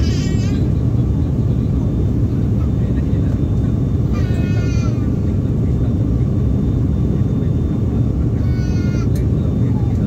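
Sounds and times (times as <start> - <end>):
airliner engine drone in cabin: 0.0 - 10.0.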